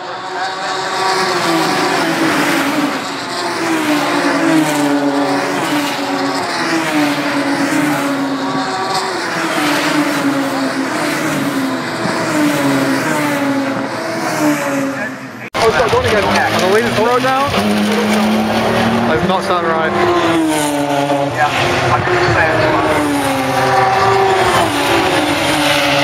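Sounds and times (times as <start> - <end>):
race cars passing: 0.0 - 26.0.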